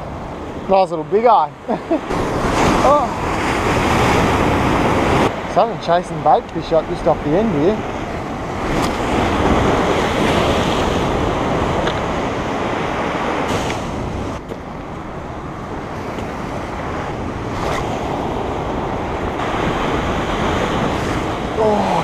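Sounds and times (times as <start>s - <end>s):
ocean surf breaking on rocks: 0.0s - 22.0s
wind buffeting microphone: 0.0s - 22.0s.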